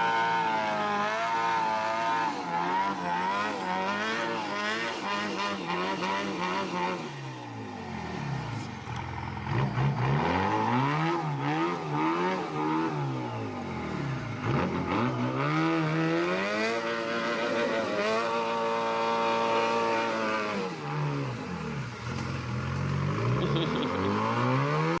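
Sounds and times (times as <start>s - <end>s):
diesel truck engine revving: 0.0s - 25.0s.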